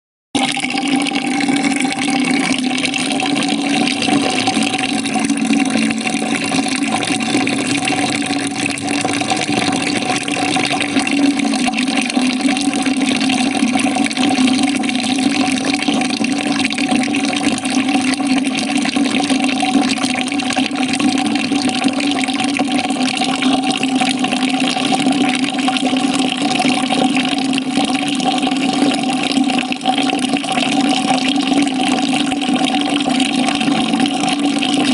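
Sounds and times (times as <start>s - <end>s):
water pouring into a bucket: 0.4s - 34.9s.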